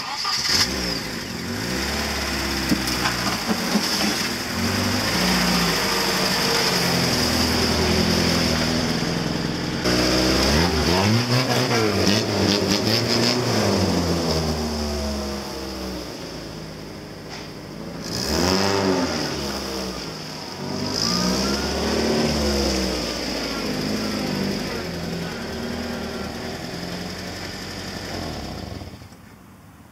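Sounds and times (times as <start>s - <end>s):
car engine revving: 0.0s - 29.2s.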